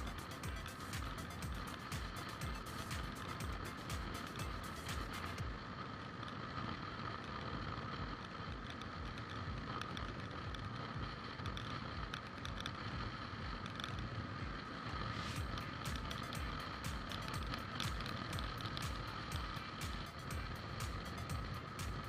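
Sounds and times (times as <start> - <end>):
road or engine noise: 0.0 - 22.0
steady high hum: 0.0 - 22.0.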